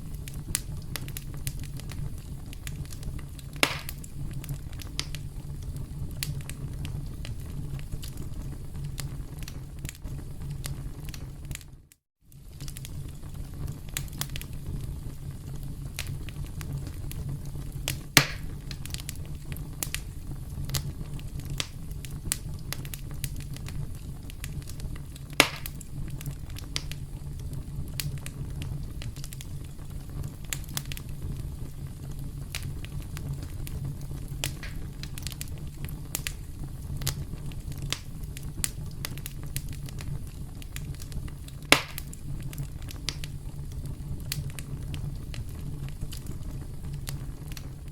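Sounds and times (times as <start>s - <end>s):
campfire crackling: 0.0s - 47.9s
low fire rumble: 0.0s - 47.9s
sharp fire pops: 0.0s - 47.9s.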